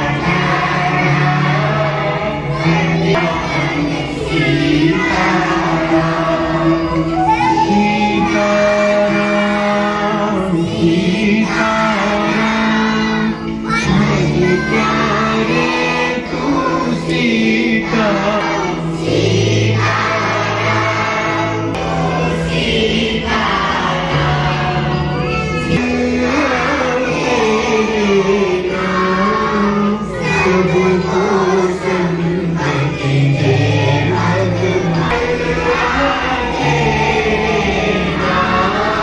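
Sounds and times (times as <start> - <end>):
group singing devotional song: 0.0 - 39.0
held instrumental notes: 0.0 - 39.0.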